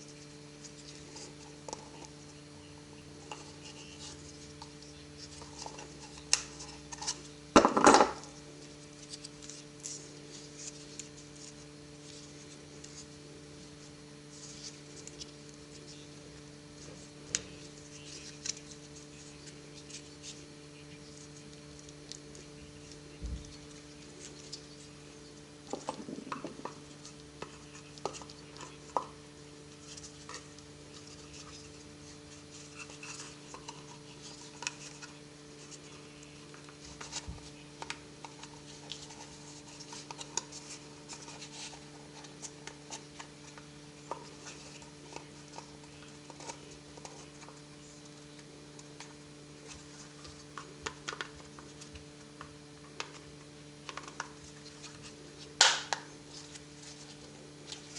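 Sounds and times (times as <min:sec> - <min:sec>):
steady electrical hum: 0:00.0 - 0:57.9.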